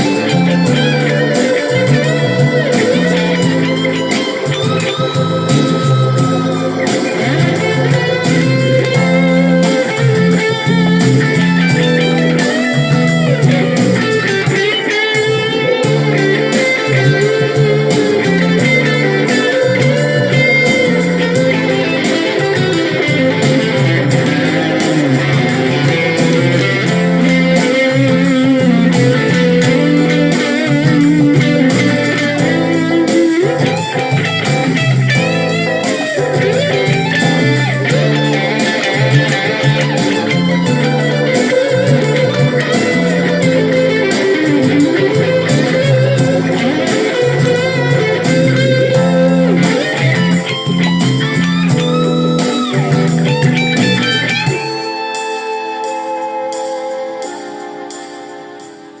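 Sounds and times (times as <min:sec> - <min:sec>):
electric guitar music: 0:00.0 - 0:59.0.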